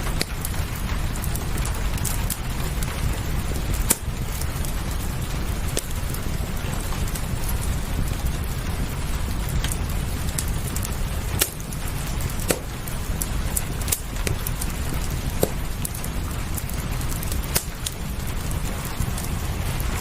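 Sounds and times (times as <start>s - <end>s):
low rumble: 0.0s - 20.0s
steady rain: 0.0s - 20.0s
wood fire crackling: 0.0s - 20.0s.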